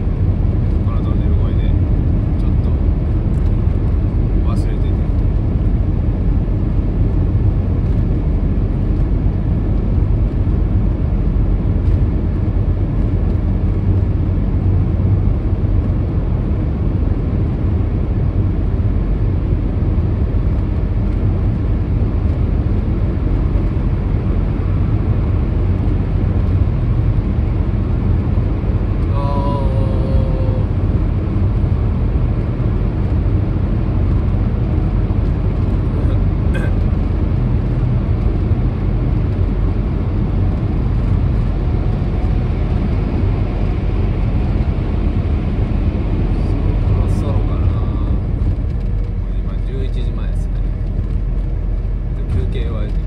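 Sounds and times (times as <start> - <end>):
car cabin road rumble: 0.0 - 53.0.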